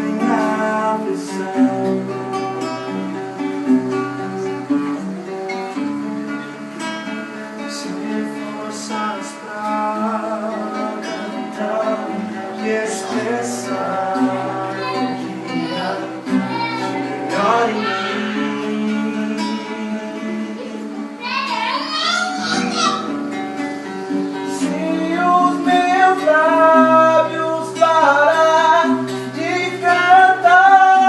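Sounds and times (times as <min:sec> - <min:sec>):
acoustic guitar strumming: 0:00.0 - 0:31.0
person singing: 0:00.0 - 0:31.0.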